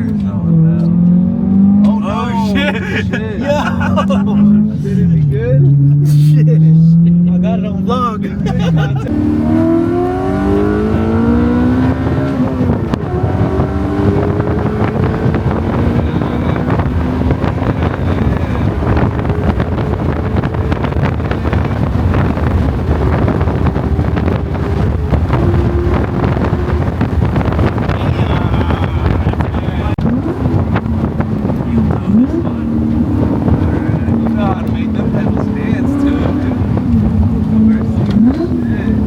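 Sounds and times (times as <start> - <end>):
car engine accelerating: 0.0 - 39.0
road and wind noise: 0.0 - 39.0.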